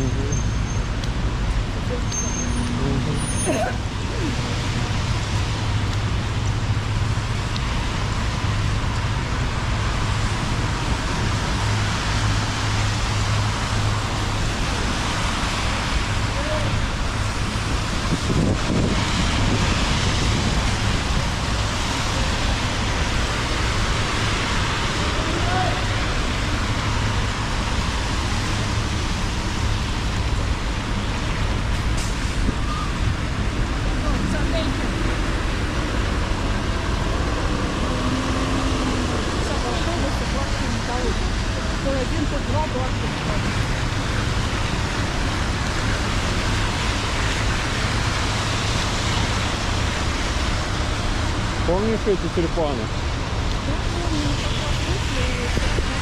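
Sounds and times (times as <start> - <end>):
low rumble of traffic: 0.0 - 56.0
rain on wet road hissing: 0.8 - 56.0.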